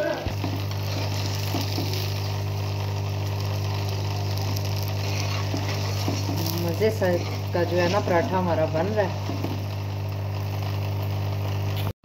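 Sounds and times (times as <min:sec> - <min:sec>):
flatbread sizzling on griddle: 0:00.0 - 0:11.9.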